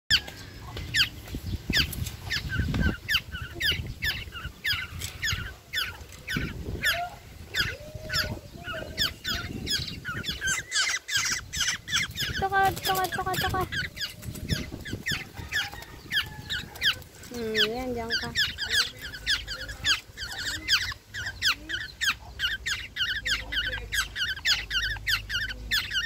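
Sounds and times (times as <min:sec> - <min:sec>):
young bird begging calls: 0:01.7 - 0:26.0.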